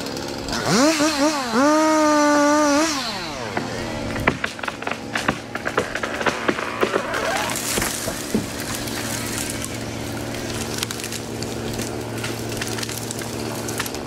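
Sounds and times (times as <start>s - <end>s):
wood cracking and splintering: 0.0s - 14.0s
low motor hum: 1.4s - 14.0s.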